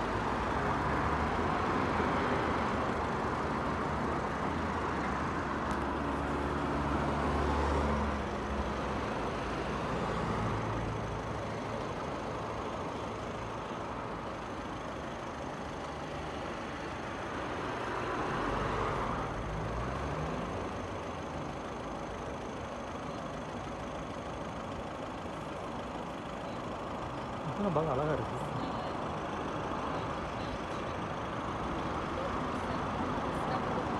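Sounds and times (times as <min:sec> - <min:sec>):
road traffic: 0:00.0 - 0:33.9.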